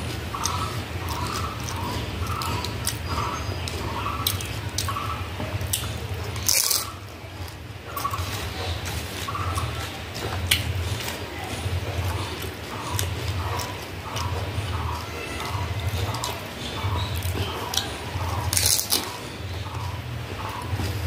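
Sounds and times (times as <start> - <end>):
crisp crunch: 0.0 - 21.0
person chewing: 0.0 - 21.0.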